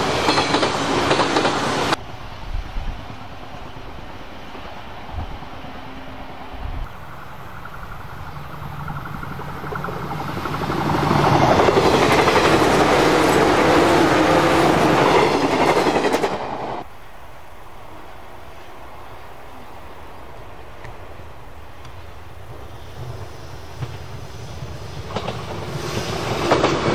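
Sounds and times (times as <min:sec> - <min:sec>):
electric train hum: 0:00.0 - 0:26.9.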